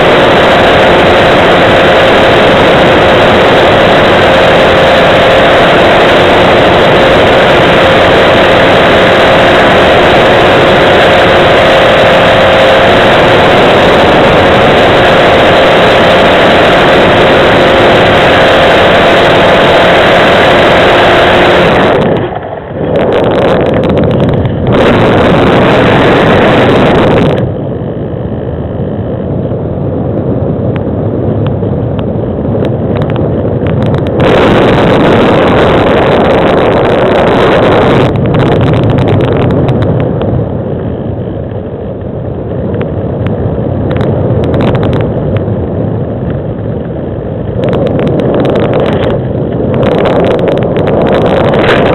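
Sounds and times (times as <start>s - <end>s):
model plane motor and propeller: 0.0s - 51.9s
rushing air: 0.0s - 51.9s.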